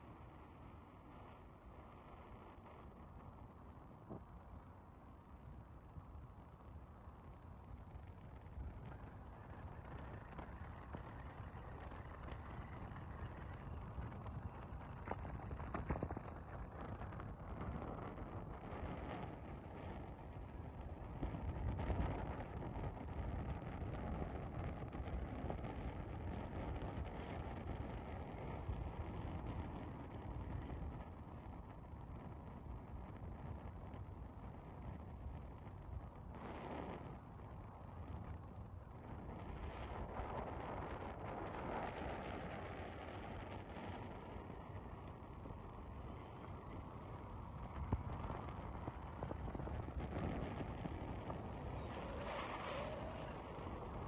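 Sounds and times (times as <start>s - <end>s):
steady low rumble: 0.0s - 54.0s
wind buffeting microphone: 0.0s - 54.0s.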